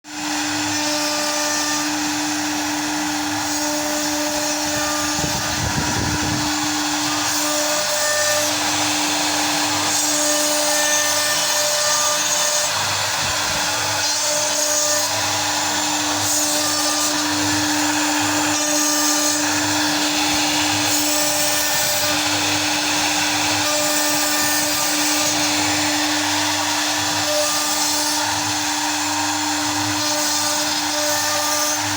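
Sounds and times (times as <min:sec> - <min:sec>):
cutting noise: 0:00.1 - 0:31.9
router spindle humming: 0:00.1 - 0:31.9.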